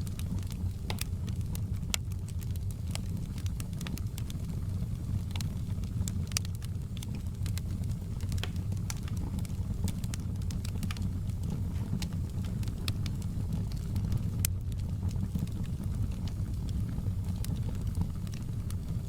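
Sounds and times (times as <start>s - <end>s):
burning wood crackling: 0.0s - 19.0s
campfire flames rumbling: 0.0s - 19.0s.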